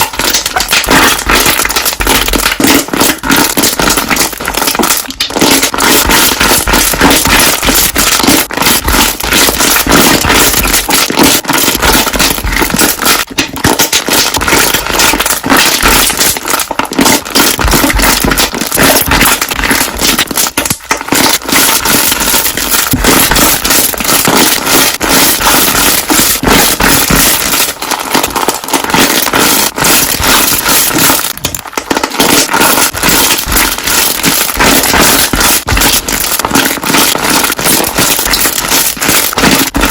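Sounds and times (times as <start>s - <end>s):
air bubbles popping and crackling: 0.0s - 39.9s
slime squishing: 0.0s - 39.9s.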